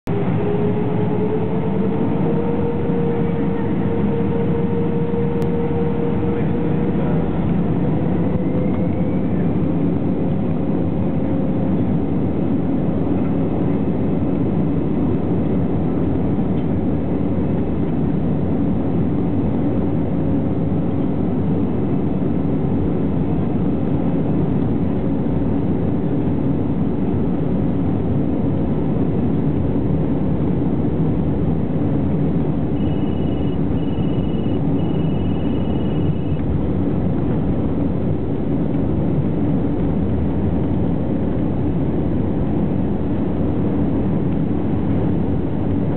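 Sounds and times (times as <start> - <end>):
jet engine cabin roar: 0.0 - 45.9.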